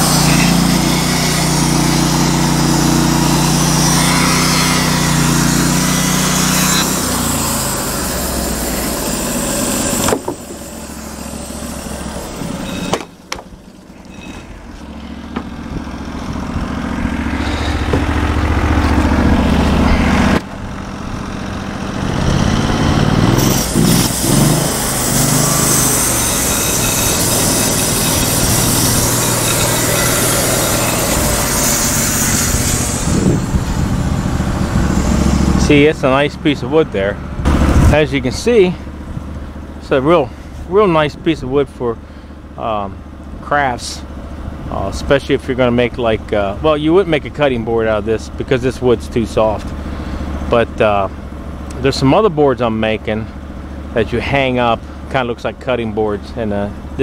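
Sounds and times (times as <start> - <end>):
sawmill gasoline engine running: 0.0 - 57.0.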